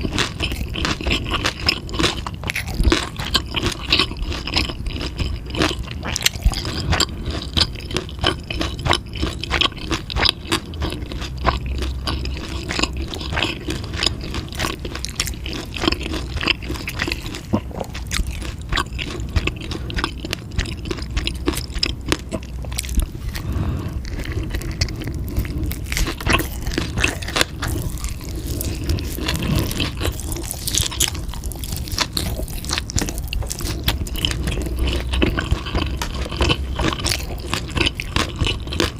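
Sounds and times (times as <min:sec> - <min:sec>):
person chewing and biting food: 0:00.0 - 0:38.9.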